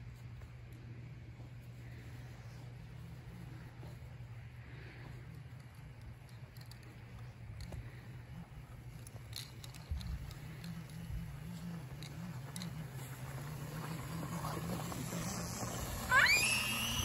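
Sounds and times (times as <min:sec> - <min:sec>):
small quad motor humming: 0:01.2 - 0:17.0.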